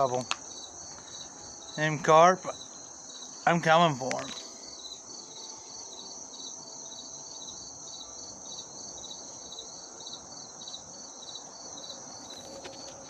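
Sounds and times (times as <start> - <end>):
insect chirping in pulses: 0.0 - 13.0
insect high-pitched trill: 0.0 - 13.0.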